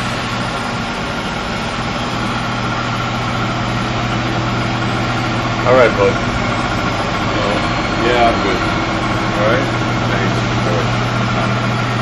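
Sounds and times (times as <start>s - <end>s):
lathe running: 0.0s - 12.0s.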